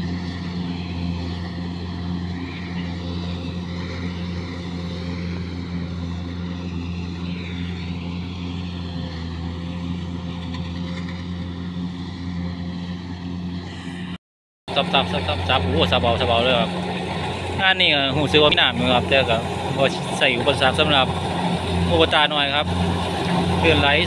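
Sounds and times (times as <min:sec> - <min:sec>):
combine harvester engine droning: 0:00.0 - 0:24.0.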